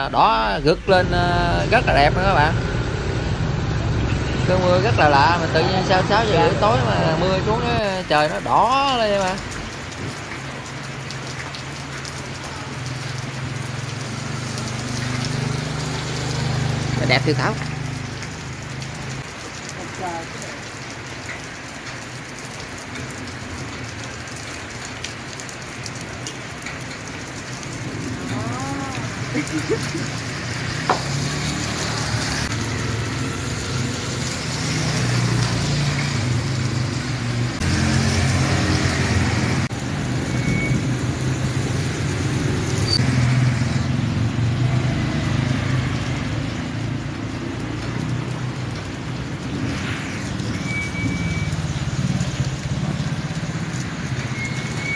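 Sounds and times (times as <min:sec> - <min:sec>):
steady rain falling: 0:00.0 - 0:54.9
traffic on wet street: 0:00.0 - 0:54.9.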